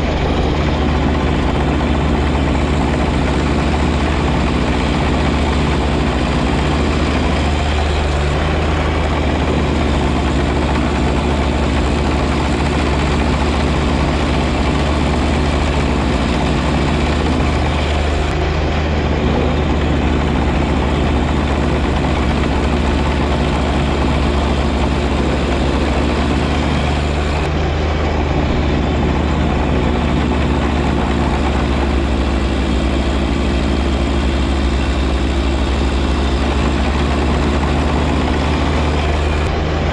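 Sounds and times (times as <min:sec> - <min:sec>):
snow blower noise: 0:00.0 - 0:39.9
tractor diesel engine running: 0:00.0 - 0:39.9.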